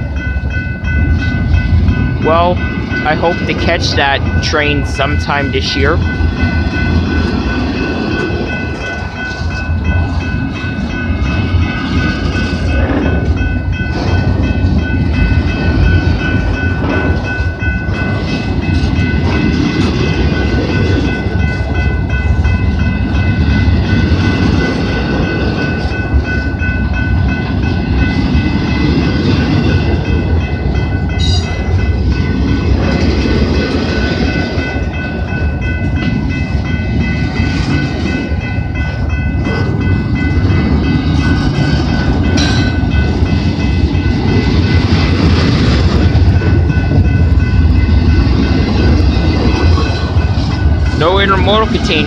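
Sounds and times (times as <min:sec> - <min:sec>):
high ringing tones: 0:00.0 - 0:52.0
steel wheels on rails: 0:00.0 - 0:52.0.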